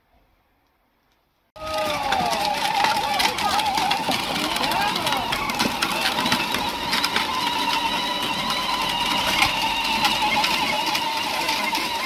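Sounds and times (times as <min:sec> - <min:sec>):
small machine whining: 0:01.6 - 0:12.0.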